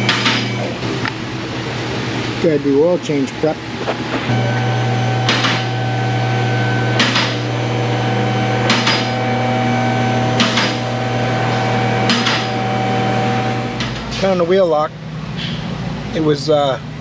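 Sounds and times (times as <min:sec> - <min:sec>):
hydraulic pump motor humming: 0:00.0 - 0:16.2.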